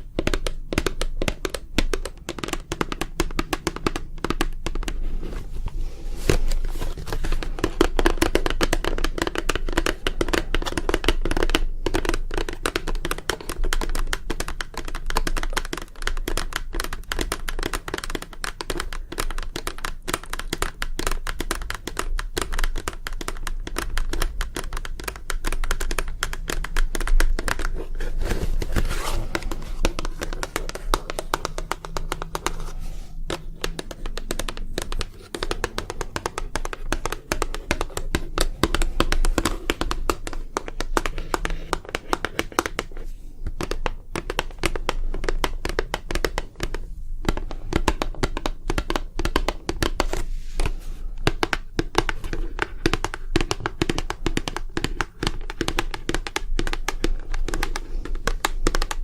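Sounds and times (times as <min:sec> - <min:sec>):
fingers tapping and scratching: 0:00.0 - 0:05.5, 0:06.2 - 0:59.0.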